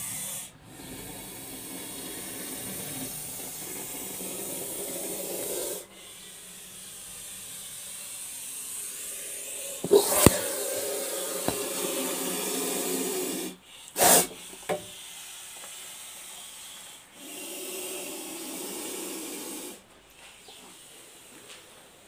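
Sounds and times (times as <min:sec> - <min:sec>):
snake hissing: 0:00.0 - 0:22.0.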